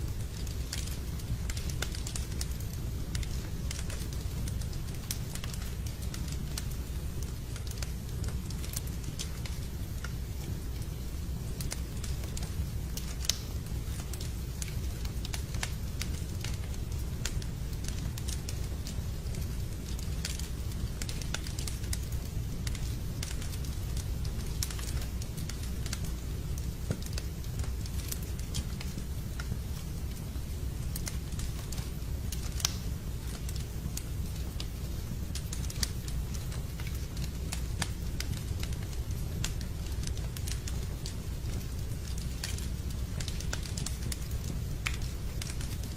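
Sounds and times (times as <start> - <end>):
fire crackling and popping: 0.0 - 45.9
low rumble of flames: 0.0 - 45.9.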